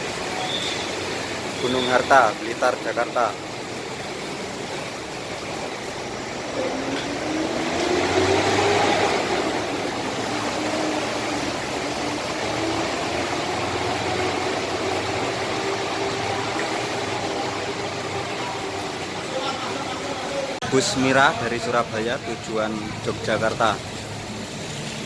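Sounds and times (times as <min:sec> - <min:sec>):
constant hiss: 0:00.0 - 0:25.0
bus engine revving: 0:02.9 - 0:25.0.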